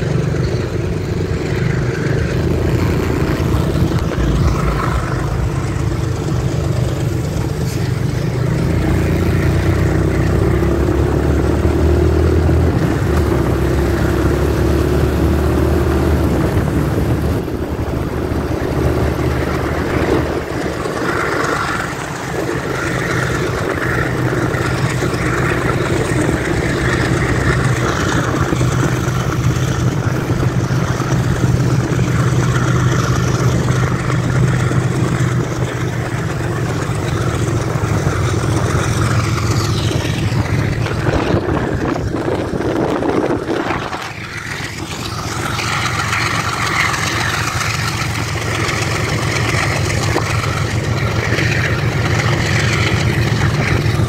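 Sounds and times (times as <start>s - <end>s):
motorcycle engine running: 0.0s - 54.0s
tyres on wet road: 0.0s - 54.0s
wind rush: 0.0s - 54.0s.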